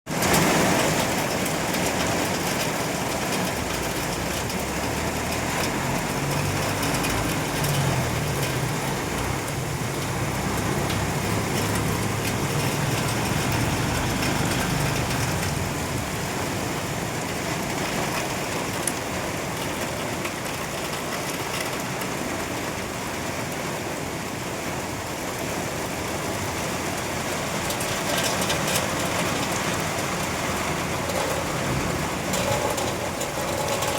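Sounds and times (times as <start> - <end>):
rain falling: 0.1 - 33.9.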